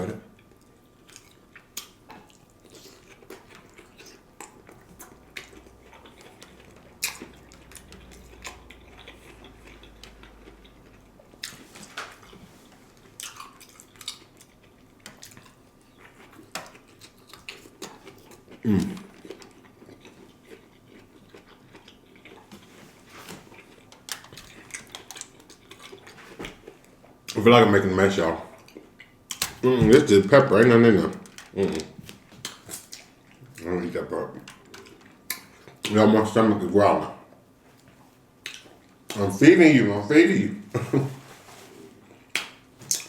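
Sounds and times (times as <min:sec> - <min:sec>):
man chewing food: 0:00.3 - 0:27.4, 0:28.2 - 0:36.0, 0:37.2 - 0:39.2, 0:40.8 - 0:43.0.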